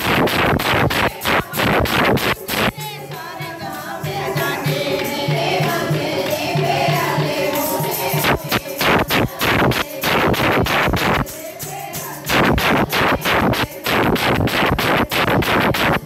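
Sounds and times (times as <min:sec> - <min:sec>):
fast percussive beat: 0:00.0 - 0:16.0
women singing a chant: 0:00.1 - 0:16.0.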